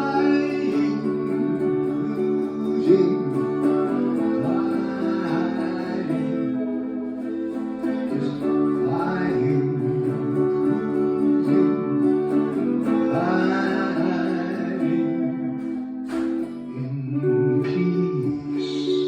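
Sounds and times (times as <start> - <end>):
gliding guitar notes: 0.0 - 19.0
guitar chords: 0.0 - 19.0.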